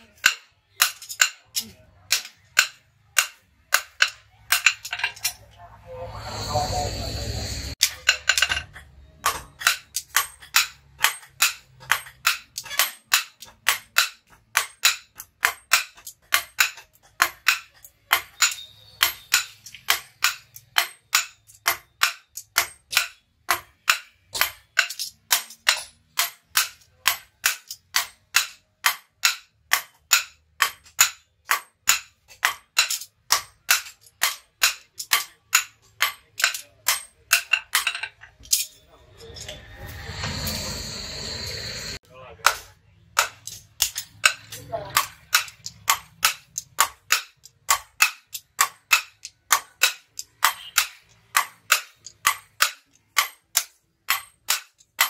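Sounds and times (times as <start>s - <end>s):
hammers striking hot metal on anvil: 0.0s - 5.4s, 7.7s - 55.0s.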